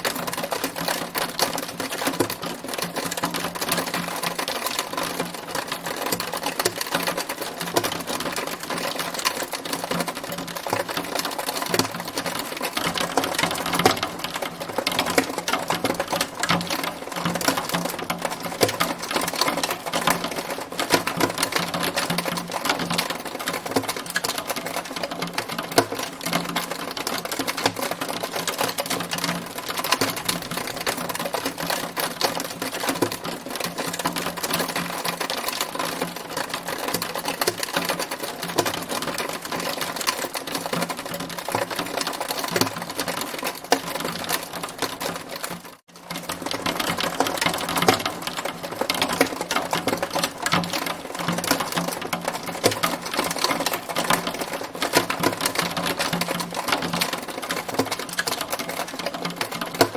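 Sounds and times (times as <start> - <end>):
hail pelting down: 0.0 - 59.9.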